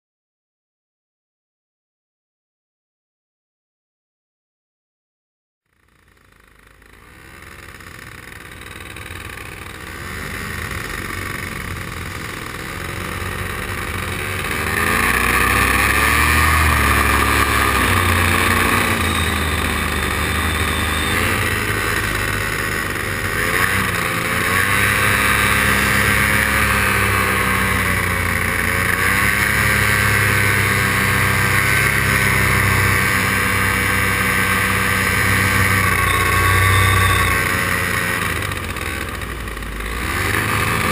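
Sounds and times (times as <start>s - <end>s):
paramotor engine and propeller: 5.7s - 40.9s.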